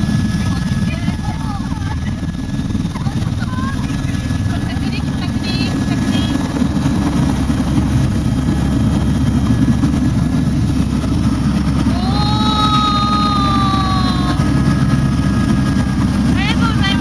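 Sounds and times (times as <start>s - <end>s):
helicopter drone inside cabin: 0.0s - 17.0s.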